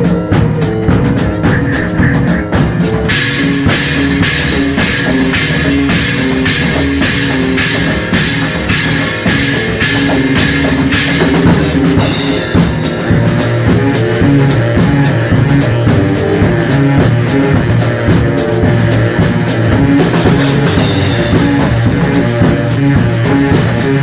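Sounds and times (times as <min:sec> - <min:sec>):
drum kit beat: 0:00.0 - 0:24.0
repeating bass line: 0:00.0 - 0:24.0.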